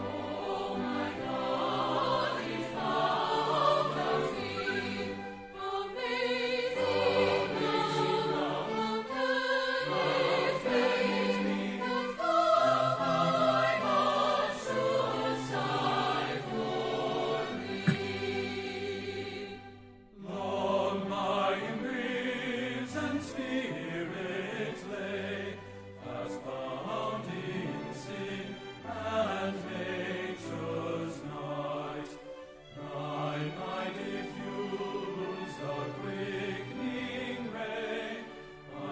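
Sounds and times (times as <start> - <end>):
group singing a hymn: 0.0 - 38.9.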